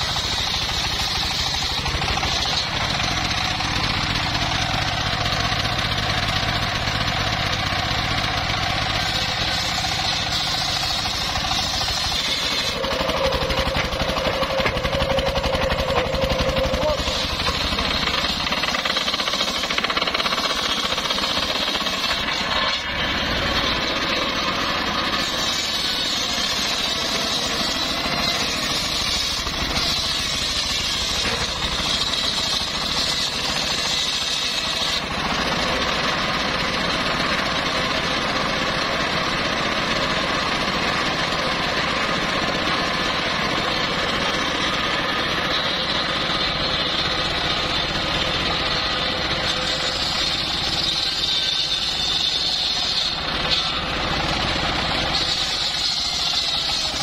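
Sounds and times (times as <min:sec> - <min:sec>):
circular saw blade cutting wood: 0:00.0 - 0:57.0
engine running: 0:00.0 - 0:57.0.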